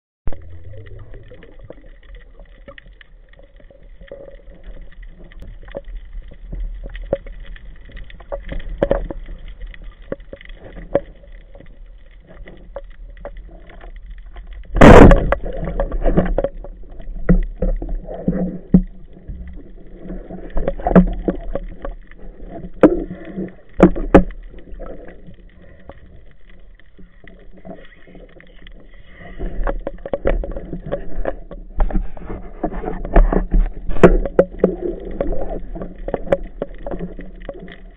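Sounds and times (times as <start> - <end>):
low underwater rumble: 0.3 - 37.9.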